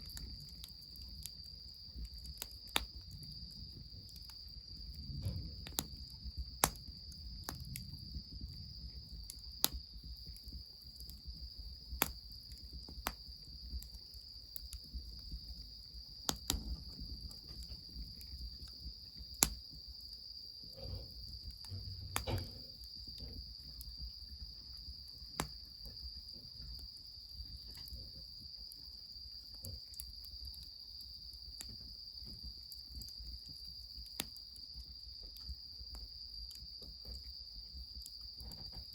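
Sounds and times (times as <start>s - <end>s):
crickets chirping: 0.0s - 38.9s
wood fire crackling: 0.0s - 38.9s.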